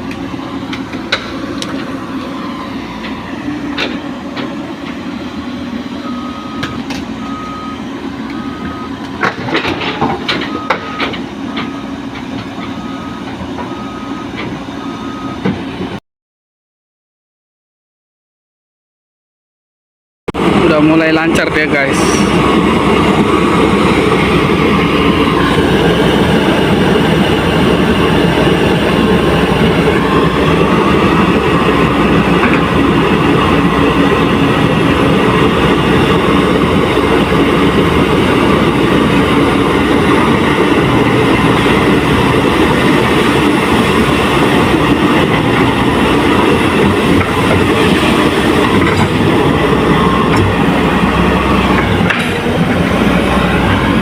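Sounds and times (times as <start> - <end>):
excavator diesel engine running: 0.0 - 16.0, 20.3 - 54.0.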